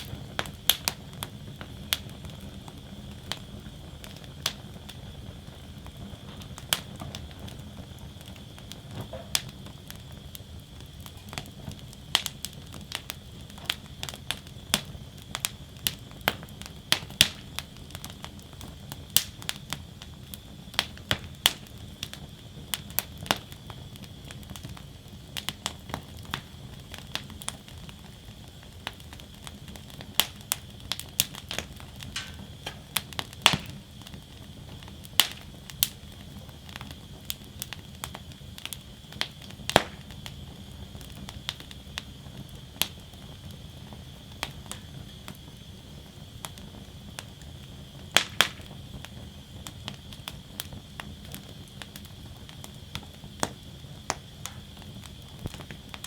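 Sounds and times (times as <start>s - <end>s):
fire crackling and popping: 0.0s - 56.0s
flames rushing: 0.0s - 56.0s.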